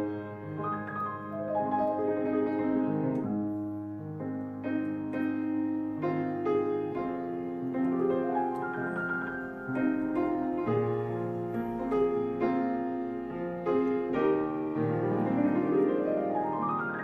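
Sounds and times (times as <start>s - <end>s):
slow piano notes: 0.0s - 17.0s.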